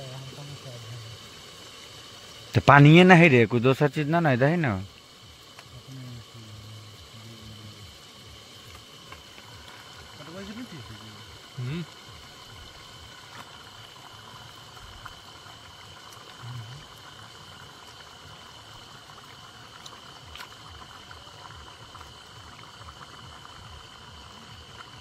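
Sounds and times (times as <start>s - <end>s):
meat and onions sizzling in oil: 0.0s - 25.0s
night insects droning: 0.0s - 25.0s.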